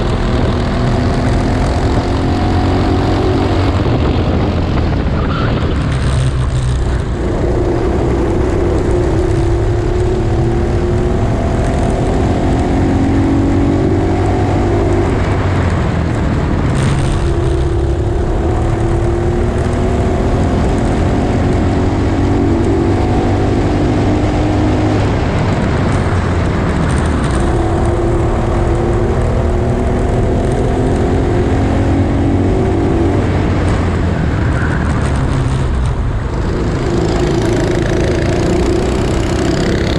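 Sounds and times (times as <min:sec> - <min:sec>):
go-kart engine at full throttle: 0:00.0 - 0:39.9.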